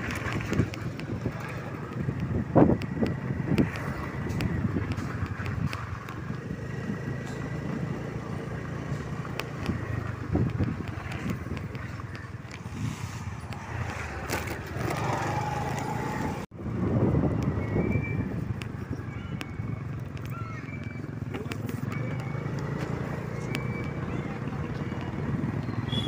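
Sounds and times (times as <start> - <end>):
scooter engine running: 0.0 - 26.0
wind and road noise: 0.0 - 26.0.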